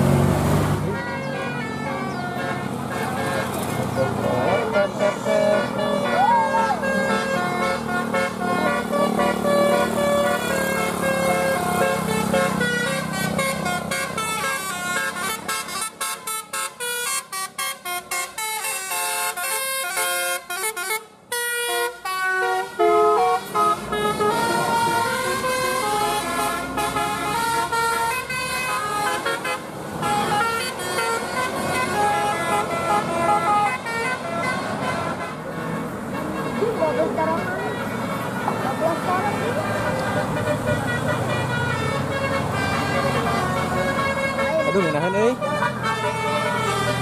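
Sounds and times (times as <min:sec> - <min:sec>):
road noise: 0:00.0 - 0:47.0
bus horn playing a melody: 0:00.8 - 0:47.0.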